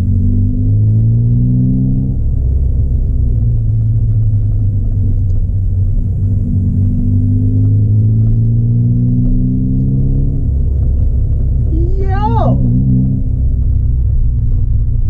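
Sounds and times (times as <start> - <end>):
car engine droning and revving: 0.0 - 15.0.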